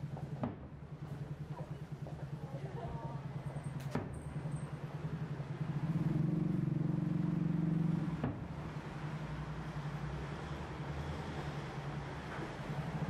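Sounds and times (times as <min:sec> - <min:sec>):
pulsing low motor hum: 0:00.0 - 0:13.0.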